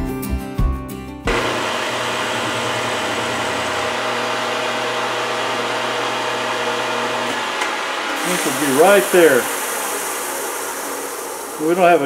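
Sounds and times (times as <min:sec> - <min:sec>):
lathe whirring: 0:01.3 - 0:12.0.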